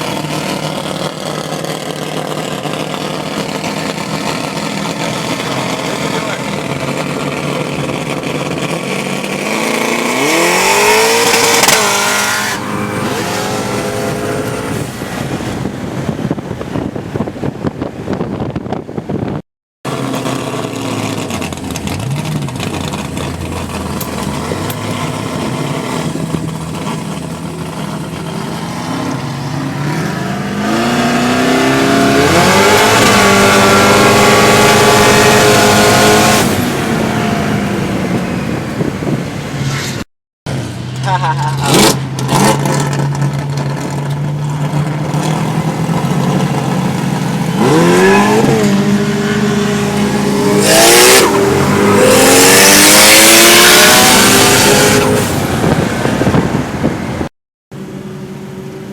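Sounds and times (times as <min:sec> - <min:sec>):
car engine accelerating hard: 0:00.0 - 0:17.0, 0:19.9 - 0:58.9.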